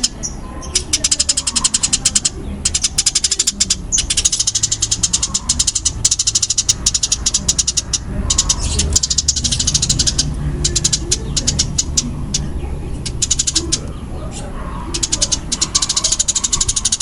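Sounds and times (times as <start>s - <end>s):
sparrow chattering chirps: 0.0s - 17.0s.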